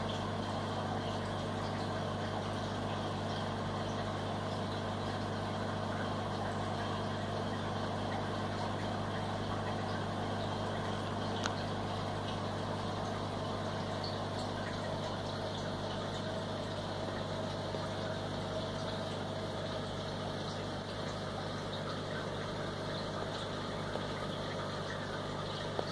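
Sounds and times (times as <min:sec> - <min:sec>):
aquarium pump humming: 0:00.0 - 0:25.9.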